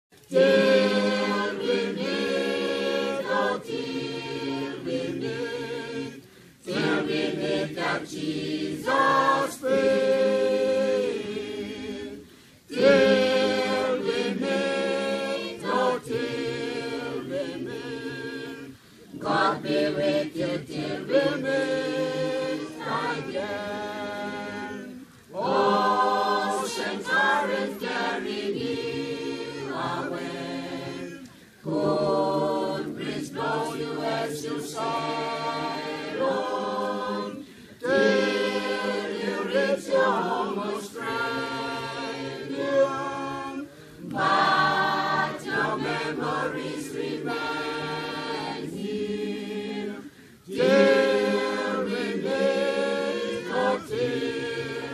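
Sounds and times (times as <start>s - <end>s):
choir singing unaccompanied: 0.1s - 54.9s.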